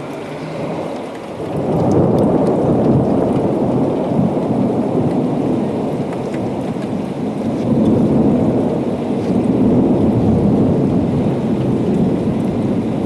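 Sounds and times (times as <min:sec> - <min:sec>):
rolling thunder rumble: 0:00.0 - 0:13.0
steady rain: 0:00.0 - 0:13.0.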